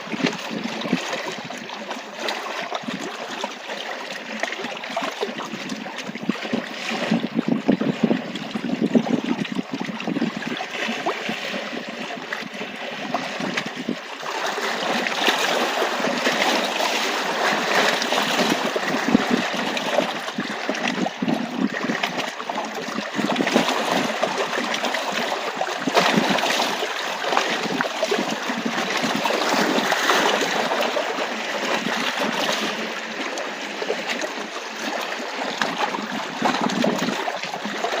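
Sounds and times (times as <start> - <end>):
small waves lapping on rocks: 0.0 - 38.0.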